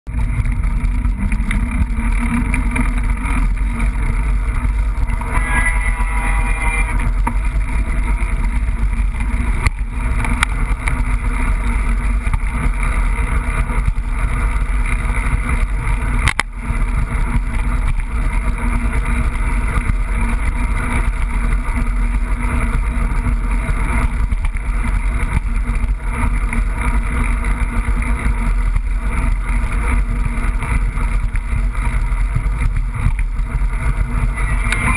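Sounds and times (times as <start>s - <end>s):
bike rattling over ground: 0.1s - 34.9s
wind rumble on microphone: 0.1s - 34.9s.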